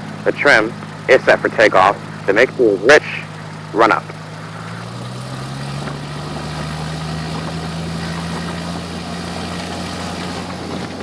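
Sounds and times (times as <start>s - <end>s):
aircraft engine run-up: 0.0s - 11.0s.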